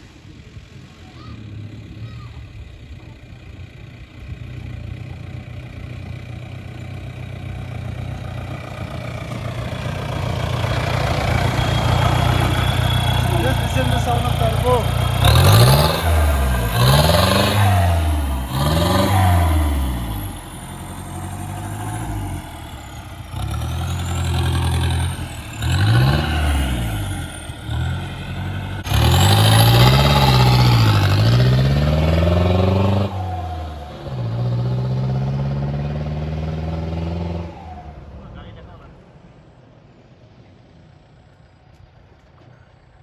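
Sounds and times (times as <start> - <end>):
diesel engine revving: 0.0 - 39.5.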